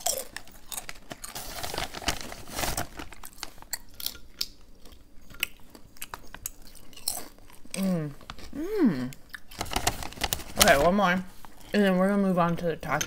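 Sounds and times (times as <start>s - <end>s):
person chewing crispy chips: 0.0s - 11.8s.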